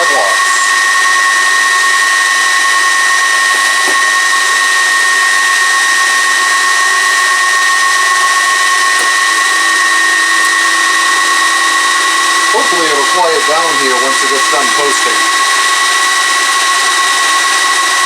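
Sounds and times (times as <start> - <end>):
server cooling fans whining: 0.0 - 18.0.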